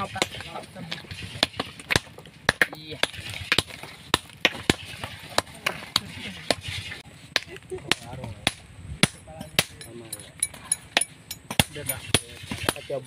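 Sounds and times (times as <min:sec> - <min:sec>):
hammer cracking rock: 0:00.0 - 0:06.7, 0:07.3 - 0:09.9, 0:10.9 - 0:13.0.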